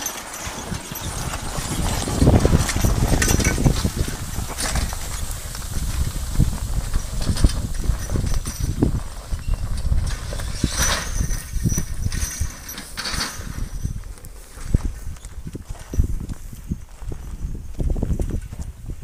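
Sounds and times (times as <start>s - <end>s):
wagon frame and chains rattling: 0.0s - 19.0s.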